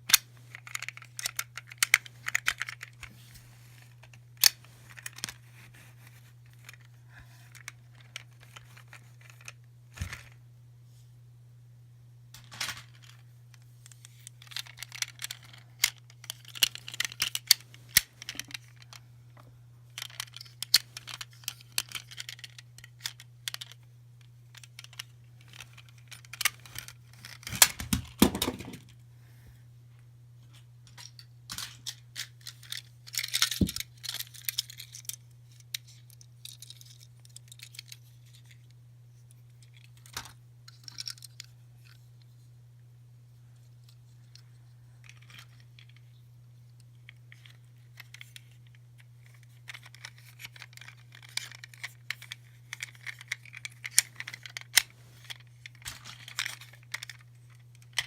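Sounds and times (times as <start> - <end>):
plastic toys and wrappers handled: 0.0 - 10.4, 12.4 - 29.0, 30.4 - 42.5, 43.5 - 58.0.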